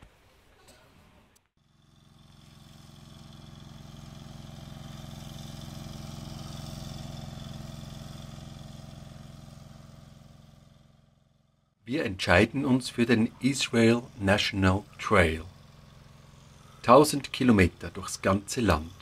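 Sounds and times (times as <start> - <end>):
engine hum: 1.6 - 19.0.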